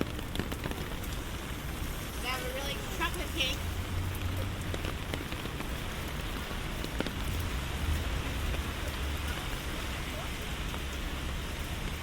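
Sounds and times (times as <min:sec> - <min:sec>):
low rumble: 0:00.0 - 0:12.0
rain falling on street: 0:00.0 - 0:12.0.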